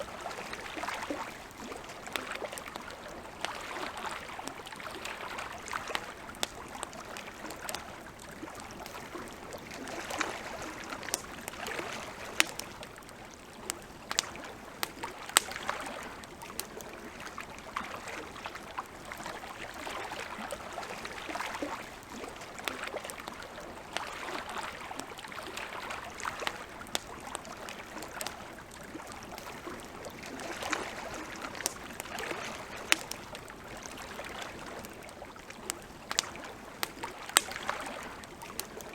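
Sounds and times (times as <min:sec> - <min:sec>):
campfire crackling: 0:00.0 - 0:38.9
lake water lapping: 0:00.0 - 0:38.9.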